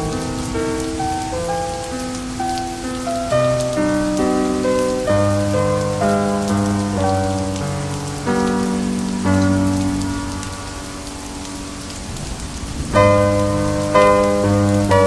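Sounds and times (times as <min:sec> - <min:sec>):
slow piano chords: 0:00.0 - 0:15.0
steady rain: 0:00.0 - 0:15.0.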